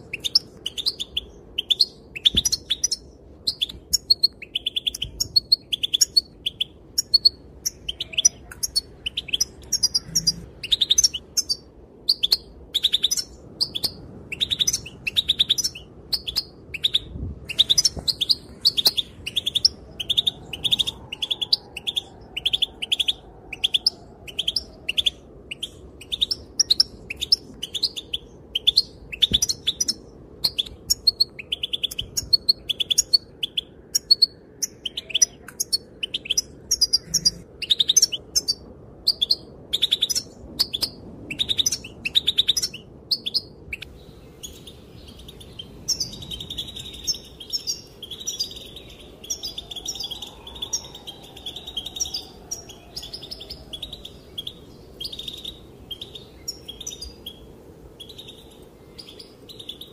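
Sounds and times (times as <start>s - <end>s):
goldfinch chirping: 0.1s - 59.9s.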